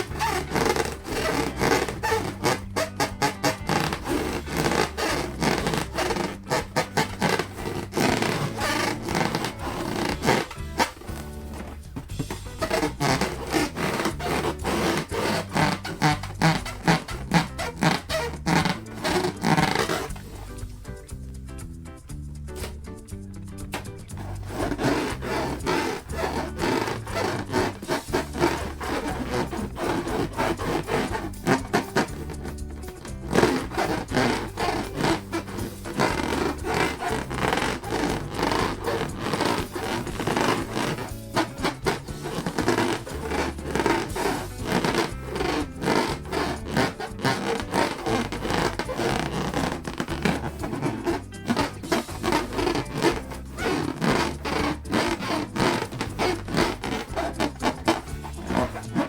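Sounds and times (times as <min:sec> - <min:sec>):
balloons squeaking when rubbed: 0:00.0 - 0:59.0.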